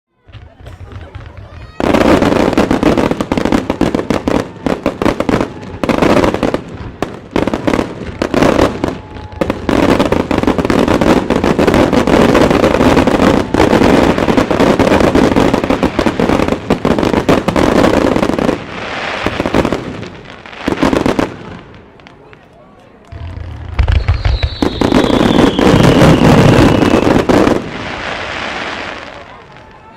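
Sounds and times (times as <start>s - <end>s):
fireworks bangs with crackle: 0.2s - 29.9s.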